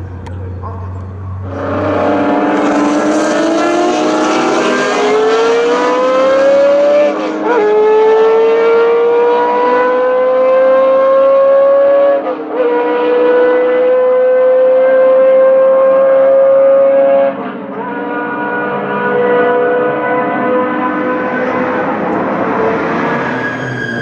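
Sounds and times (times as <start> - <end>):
racing car engine at full throttle: 0.0 - 24.0.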